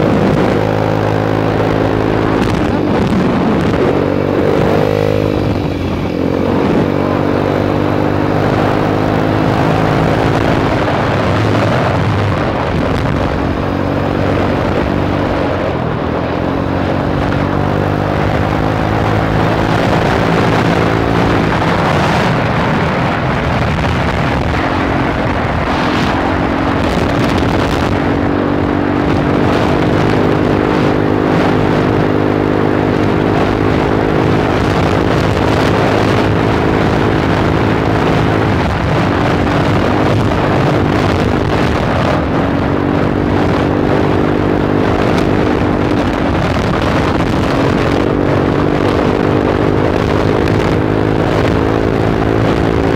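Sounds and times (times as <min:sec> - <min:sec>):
motorcycle engine revving: 0:00.0 - 0:52.9
wind rushing over microphone: 0:00.0 - 0:52.9.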